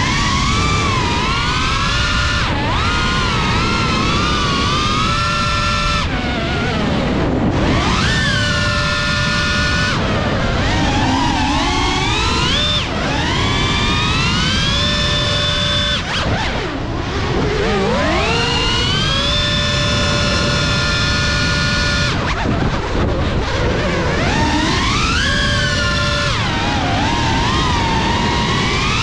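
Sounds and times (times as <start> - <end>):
drone motors whining: 0.0 - 29.0
propeller air rush: 0.0 - 29.0.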